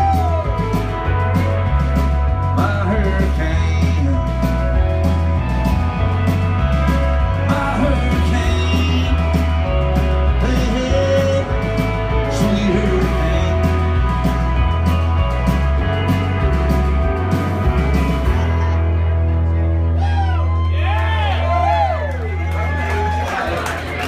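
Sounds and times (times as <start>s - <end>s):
electric guitars with bent notes: 0.0s - 21.2s
bass line: 0.0s - 23.6s
drums: 0.0s - 24.0s.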